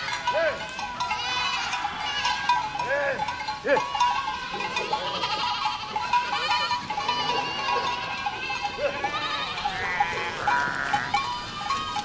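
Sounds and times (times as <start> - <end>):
animal bells clinking: 0.0 - 12.0
goats bleating: 0.0 - 12.0.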